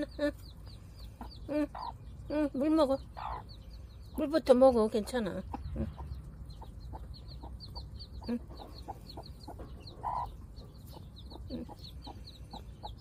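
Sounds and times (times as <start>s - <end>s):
chicks peeping: 0.0s - 13.0s
hen clucking softly: 0.4s - 2.0s, 3.2s - 4.2s, 5.0s - 13.0s.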